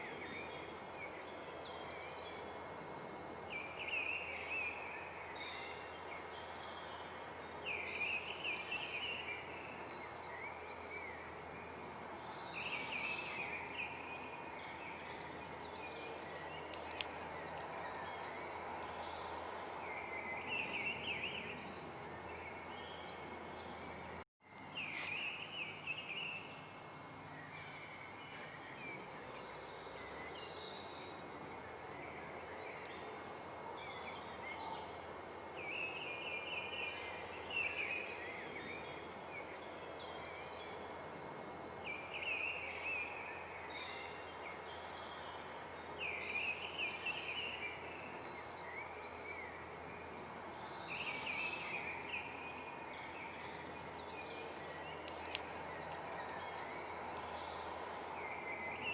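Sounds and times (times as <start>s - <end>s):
outdoor ambient hiss: 0.0s - 58.9s.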